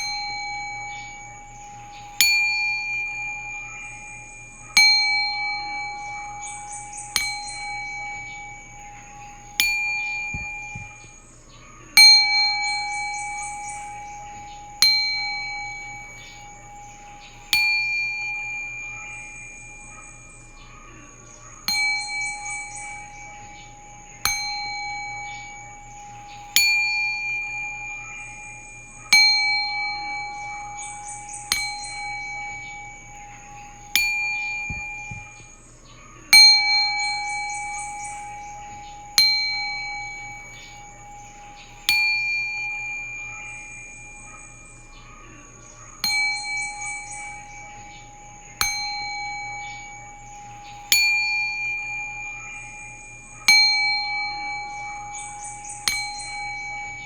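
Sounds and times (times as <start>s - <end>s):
singing bowl ringing: 0.0s - 57.0s.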